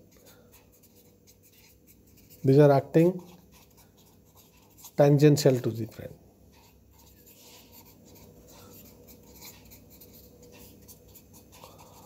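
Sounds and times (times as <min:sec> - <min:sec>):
pen scratching on paper: 0:00.5 - 0:05.1, 0:06.5 - 0:12.0.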